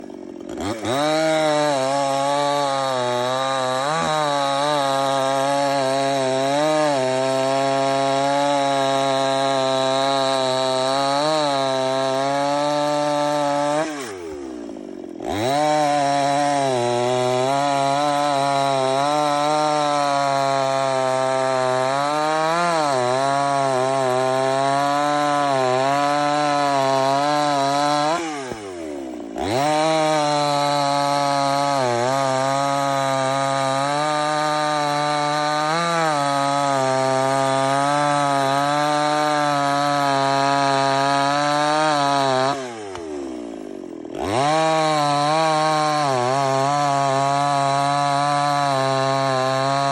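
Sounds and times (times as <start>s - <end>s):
chainsaw cutting at full throttle: 0.0s - 49.9s.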